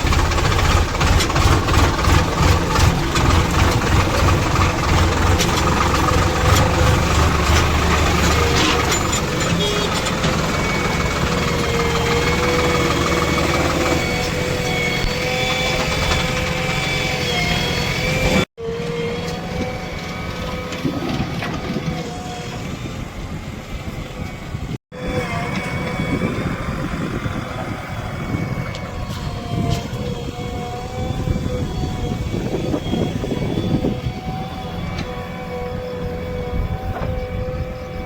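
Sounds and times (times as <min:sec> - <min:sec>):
diesel engines rumbling: 0:00.0 - 0:38.0
steady machine whine: 0:00.0 - 0:38.0.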